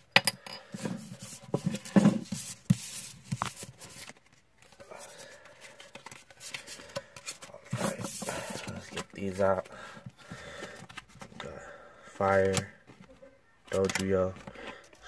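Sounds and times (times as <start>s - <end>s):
hands handling cards and packaging: 0.8s - 11.6s, 12.2s - 15.0s.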